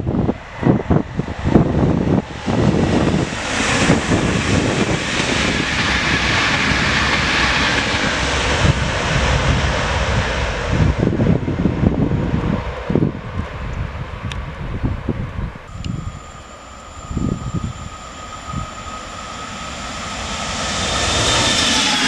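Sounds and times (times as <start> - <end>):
electric train passing at speed: 0.0 - 22.0
wind buffeting microphone: 0.0 - 22.0.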